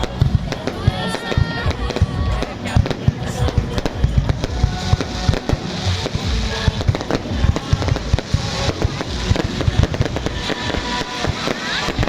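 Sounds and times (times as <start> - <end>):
fireworks bangs: 0.0 - 12.0
music playing: 0.0 - 12.0.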